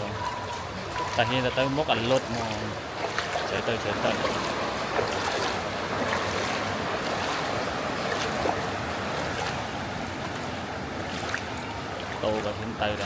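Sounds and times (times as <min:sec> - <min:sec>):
floodwater sloshing and rushing: 0:00.0 - 0:13.0
small splashes: 0:00.5 - 0:13.0.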